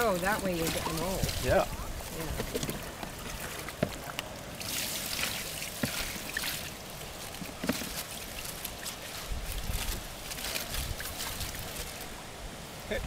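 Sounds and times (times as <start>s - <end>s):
water pouring and splashing through net: 0.0s - 12.3s.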